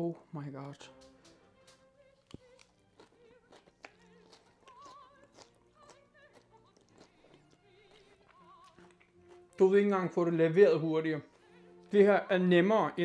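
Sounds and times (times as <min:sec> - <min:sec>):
faint classical music: 0:00.0 - 0:13.0.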